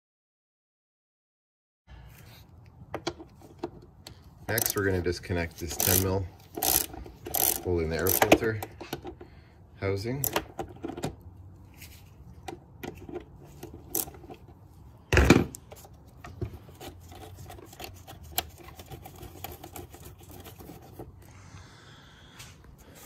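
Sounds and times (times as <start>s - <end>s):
hands handling plastic parts: 2.2s - 9.4s, 10.0s - 21.3s.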